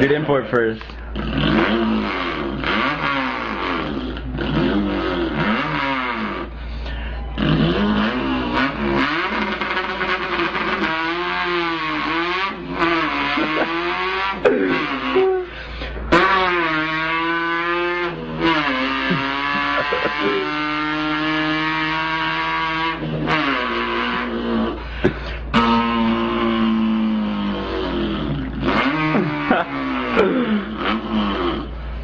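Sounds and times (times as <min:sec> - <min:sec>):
man imitating car engine: 0:00.0 - 0:32.0.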